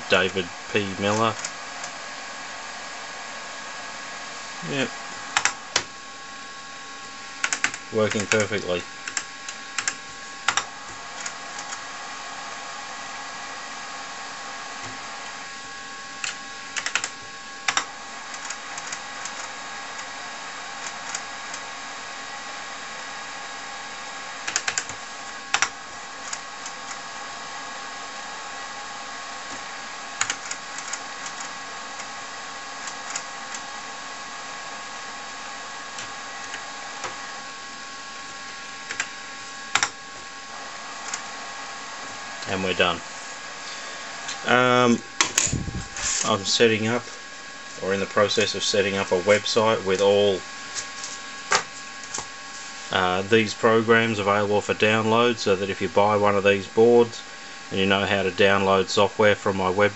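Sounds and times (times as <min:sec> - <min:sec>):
computer whirring hum: 0:00.0 - 0:59.9.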